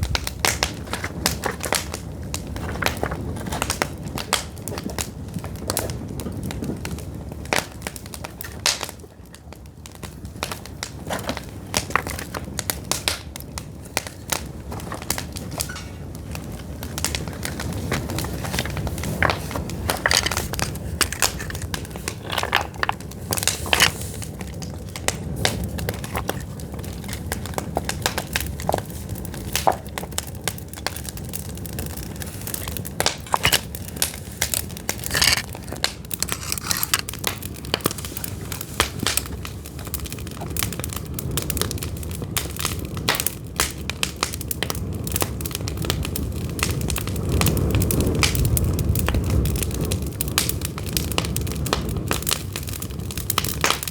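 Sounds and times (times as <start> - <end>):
fire low rumble: 0.0 - 53.9
firewood crackling and popping: 0.0 - 53.9.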